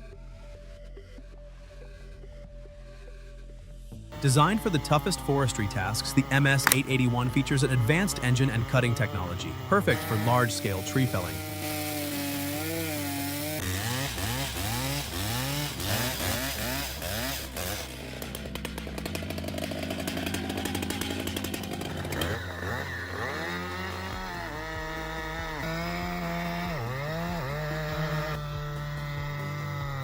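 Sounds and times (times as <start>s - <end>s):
chainsaw cutting timber: 4.1s - 30.0s
chainsaw revving: 4.1s - 30.0s.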